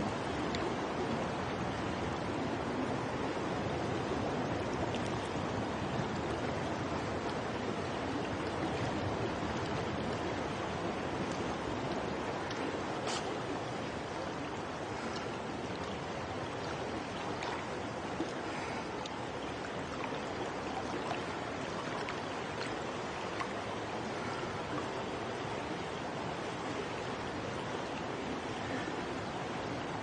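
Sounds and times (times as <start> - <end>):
pool water lapping: 4.1 - 30.0.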